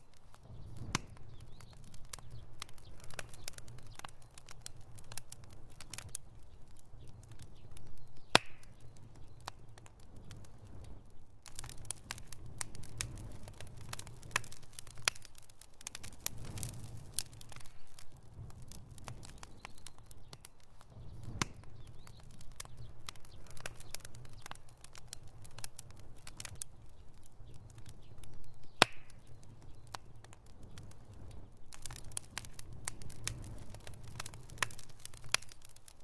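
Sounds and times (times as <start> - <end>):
bonfire crackling: 0.0 - 36.0
sharp pops and snaps: 0.0 - 36.0.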